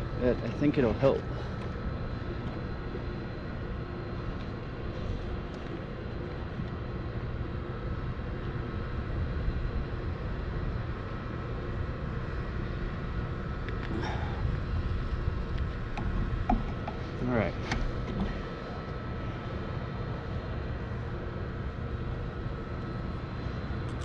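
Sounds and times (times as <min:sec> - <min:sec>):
bicycle riding rumble: 0:00.0 - 0:24.0.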